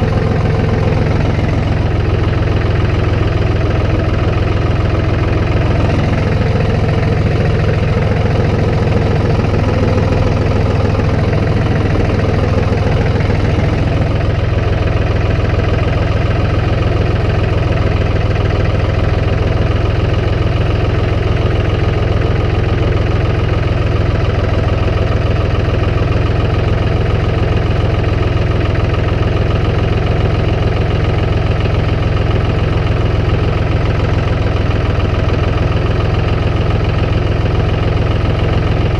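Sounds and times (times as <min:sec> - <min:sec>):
vehicle engine droning: 0:00.0 - 0:38.9.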